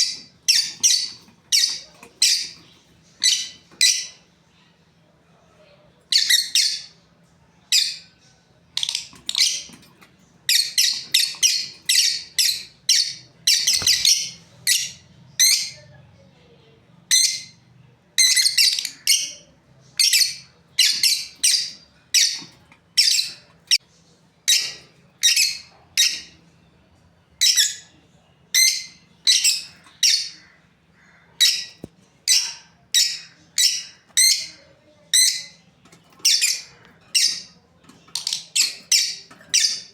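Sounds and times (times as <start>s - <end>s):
lovebirds chirping and squawking: 0.0s - 4.9s, 6.0s - 16.3s, 17.0s - 26.6s, 27.4s - 39.9s.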